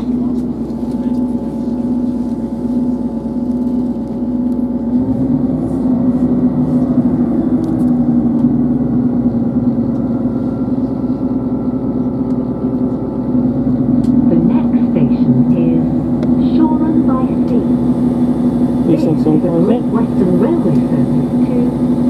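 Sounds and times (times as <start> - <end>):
train diesel engine idling: 0.0 - 22.0.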